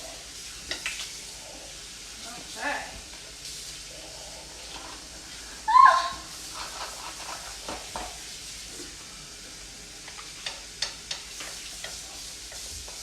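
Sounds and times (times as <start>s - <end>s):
patties sizzling in a frying pan: 0.0s - 13.0s.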